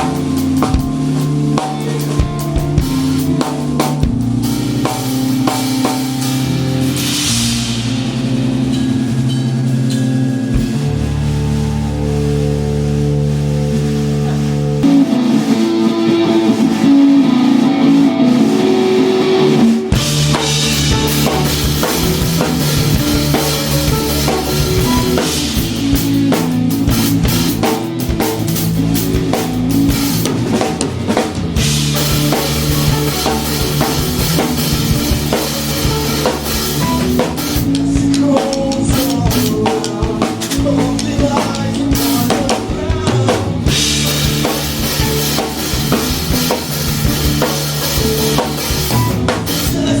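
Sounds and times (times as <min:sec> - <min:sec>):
drum kit: 0:00.0 - 0:50.0
guitar: 0:00.0 - 0:50.0
rock band playing: 0:00.0 - 0:50.0.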